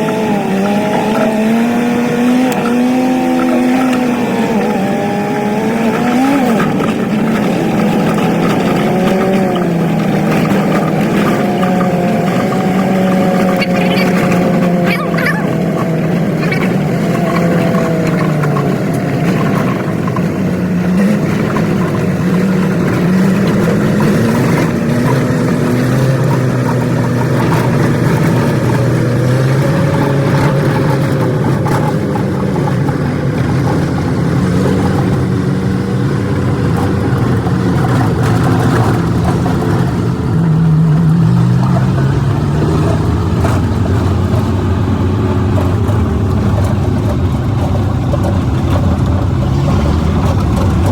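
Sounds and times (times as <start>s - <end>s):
clunks: 0.0s - 50.9s
truck engine running: 0.0s - 50.9s.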